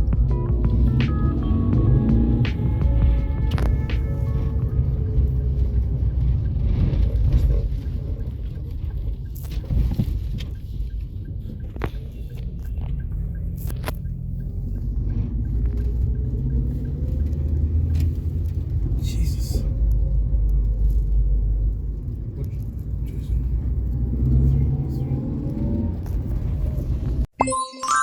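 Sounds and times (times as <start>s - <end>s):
car road rumble: 0.0s - 27.3s.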